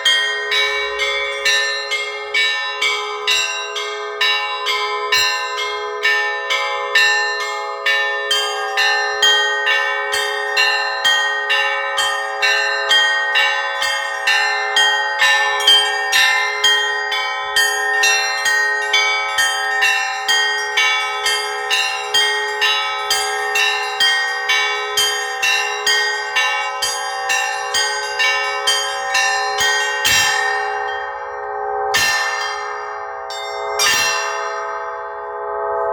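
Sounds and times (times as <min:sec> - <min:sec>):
church bells ringing a peal: 0:00.0 - 0:35.9.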